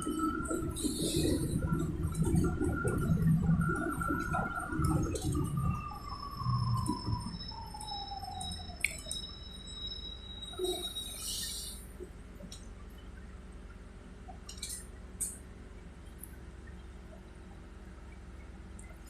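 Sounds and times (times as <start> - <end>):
bus interior low hum: 0.0 - 19.0.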